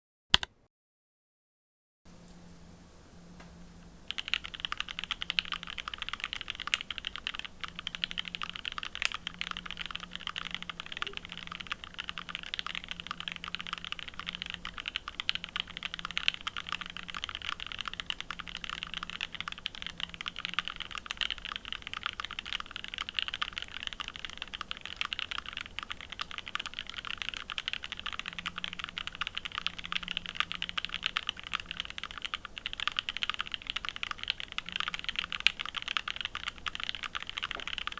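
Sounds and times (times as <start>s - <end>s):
mechanical keyboard typing: 4.1s - 37.9s.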